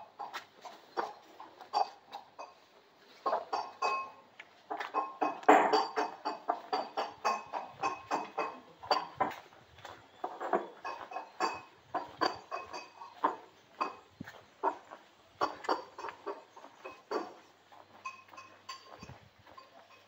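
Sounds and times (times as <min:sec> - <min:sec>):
footsteps on stone paving: 0:00.0 - 0:20.0.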